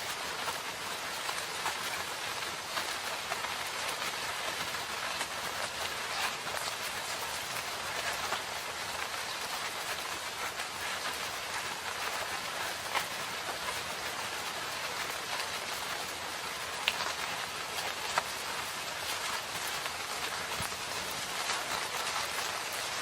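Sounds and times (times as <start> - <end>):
rain falling: 0.0 - 23.0
raindrops ticking on leaves: 0.0 - 23.0.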